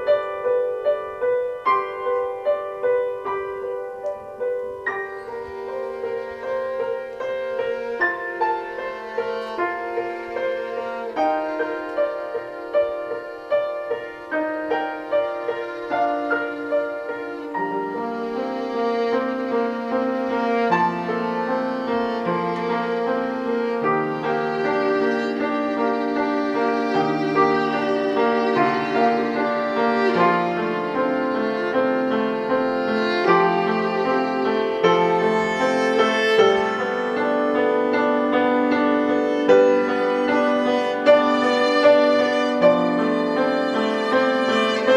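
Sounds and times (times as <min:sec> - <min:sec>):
piano: 0:00.0 - 0:44.9
violin melody: 0:00.0 - 0:44.9.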